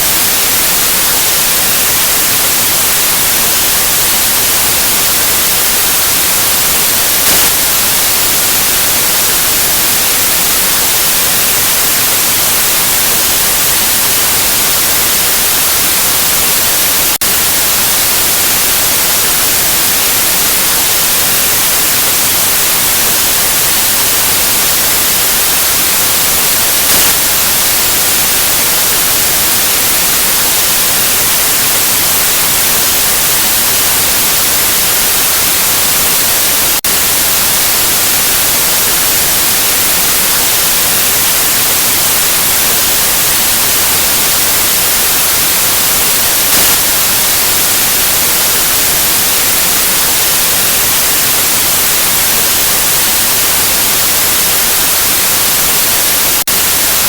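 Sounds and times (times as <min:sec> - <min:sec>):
loud white noise hiss: 0:00.0 - 0:57.0.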